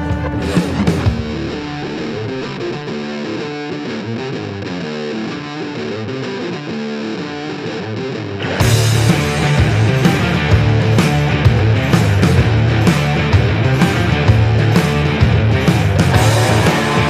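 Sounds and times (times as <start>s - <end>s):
rock band playing: 0.0s - 17.0s
rock guitar riff: 0.0s - 17.0s.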